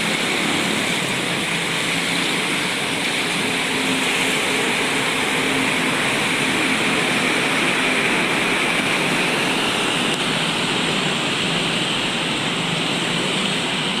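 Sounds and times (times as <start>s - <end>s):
traffic hiss on wet road: 0.0s - 14.0s.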